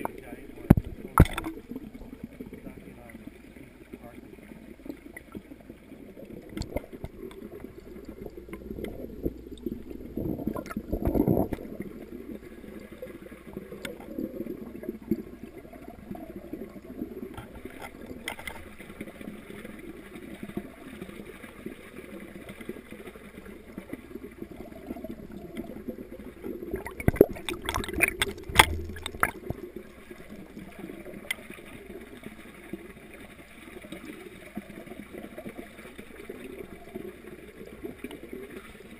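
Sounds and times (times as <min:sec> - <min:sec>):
muffled underwater gurgling: 0:00.0 - 0:38.9.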